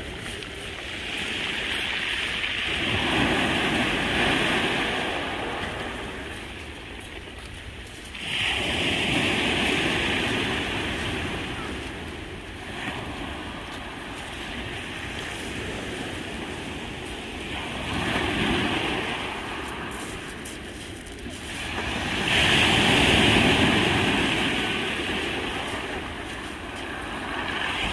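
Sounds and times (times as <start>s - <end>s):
waves washing on pebble beach: 0.0s - 27.9s.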